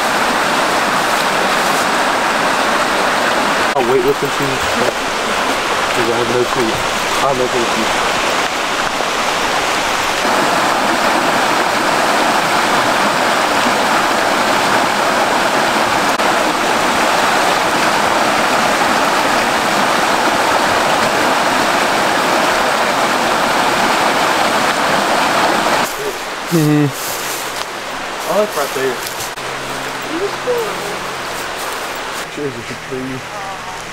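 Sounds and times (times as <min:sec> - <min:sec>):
creek rushing over stones: 0:00.0 - 0:33.9.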